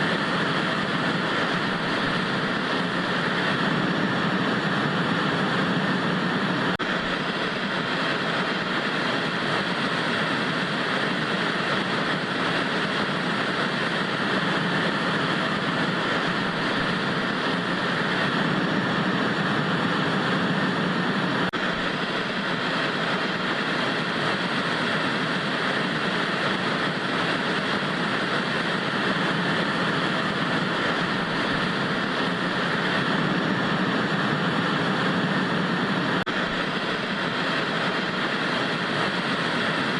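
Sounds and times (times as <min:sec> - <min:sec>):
tv static hiss: 0:00.0 - 0:39.9.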